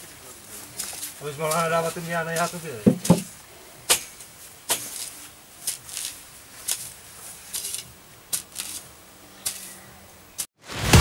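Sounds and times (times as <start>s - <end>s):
garden tool scraping soil: 0.0s - 3.3s, 4.1s - 10.5s.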